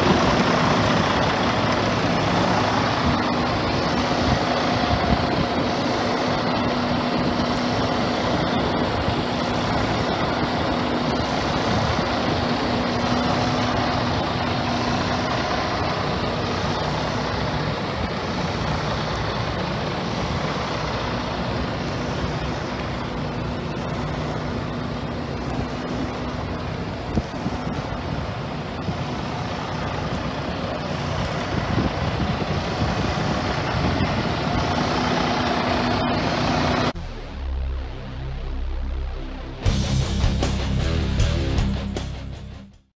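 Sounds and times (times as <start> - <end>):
diesel truck engine idling: 0.0 - 42.5.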